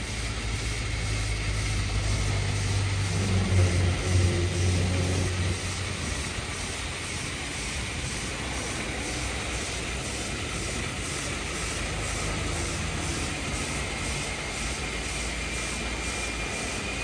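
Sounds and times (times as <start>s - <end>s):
hissing foam spray: 0.0s - 17.0s
low machine rumble: 0.0s - 17.0s.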